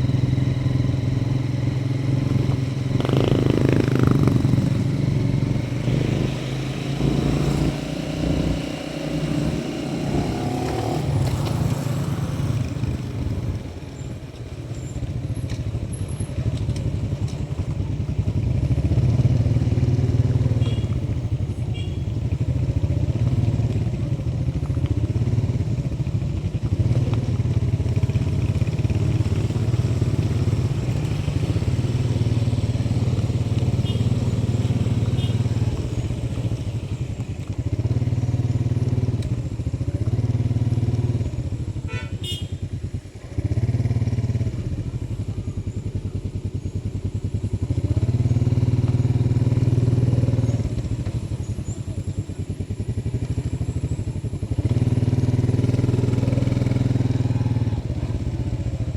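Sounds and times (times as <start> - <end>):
motorcycle engine running: 0.0 - 58.9
wind and road noise: 0.0 - 58.9.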